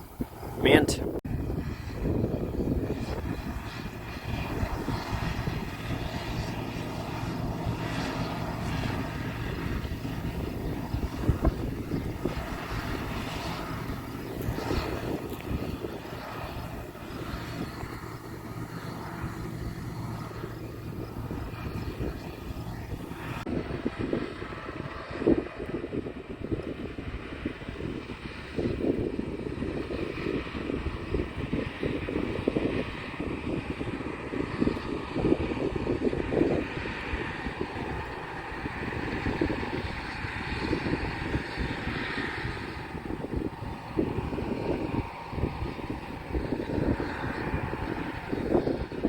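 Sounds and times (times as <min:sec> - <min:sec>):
vehicle engine humming: 0:00.0 - 0:25.3, 0:26.2 - 0:49.0.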